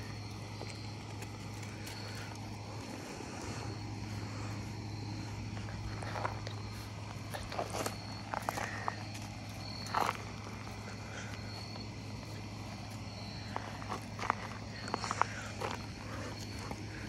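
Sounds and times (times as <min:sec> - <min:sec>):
paws and shoes crunching gravel: 0:00.0 - 0:17.0
steady low hum: 0:00.0 - 0:17.0.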